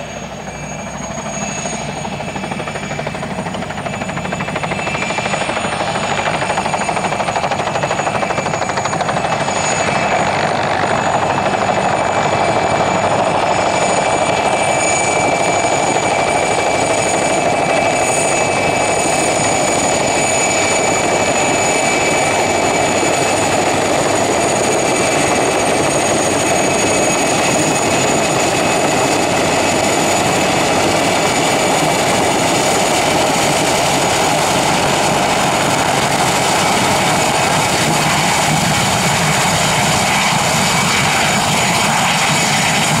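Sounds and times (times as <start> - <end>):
helicopter rotors and turbine whine: 0.0 - 43.0.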